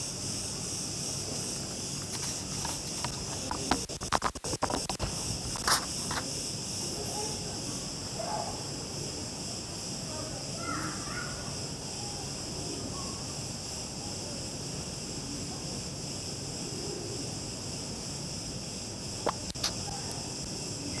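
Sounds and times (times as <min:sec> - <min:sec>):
insects chirping chorus: 0:00.0 - 0:21.0.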